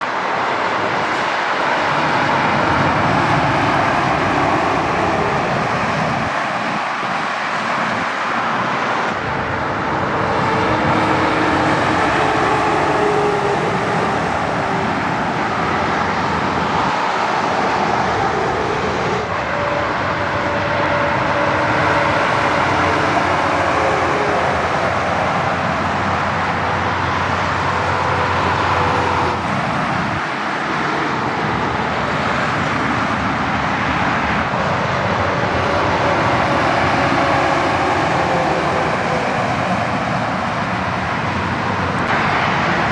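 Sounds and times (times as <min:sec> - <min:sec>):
highway traffic roar: 0:00.0 - 0:42.9.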